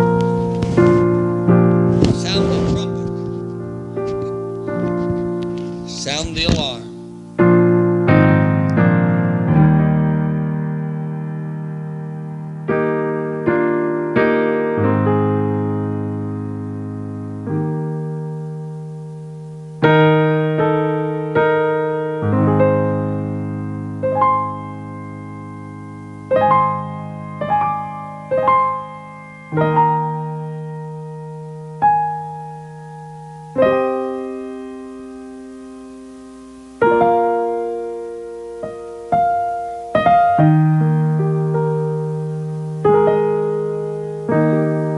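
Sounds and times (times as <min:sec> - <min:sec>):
piano playing slow chords: 0:00.0 - 0:44.9.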